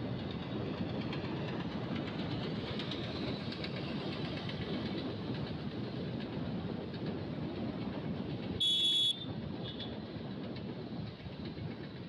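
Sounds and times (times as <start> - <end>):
wind and motorcycle road noise: 0.0 - 12.0.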